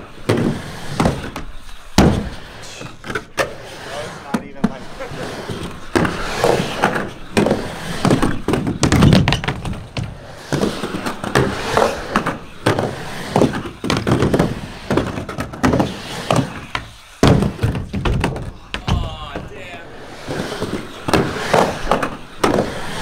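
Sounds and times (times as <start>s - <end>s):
skateboard thunks and knocks: 0.0s - 3.6s, 4.3s - 19.6s, 20.2s - 23.0s
skateboard wheels rumbling: 0.0s - 23.0s.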